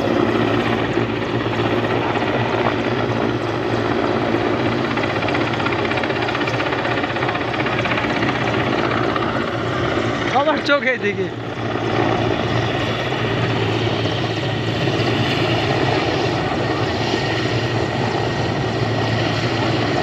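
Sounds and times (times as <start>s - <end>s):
helicopter rotor and engine: 0.0s - 20.0s.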